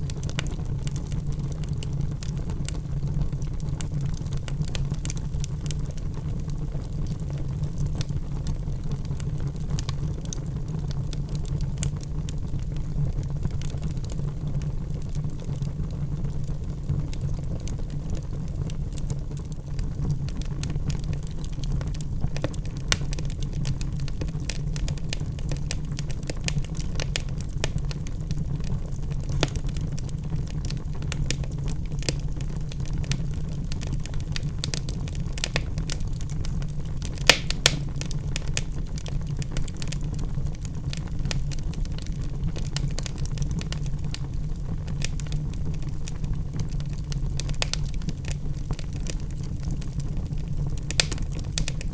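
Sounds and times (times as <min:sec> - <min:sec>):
fireplace flames rumbling: 0:00.0 - 0:51.9
wood crackling and popping: 0:00.0 - 0:51.9.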